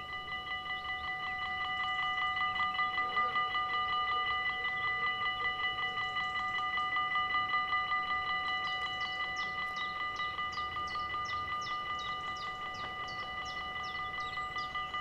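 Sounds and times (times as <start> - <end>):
level-crossing warning bell ringing: 0.0 - 15.0.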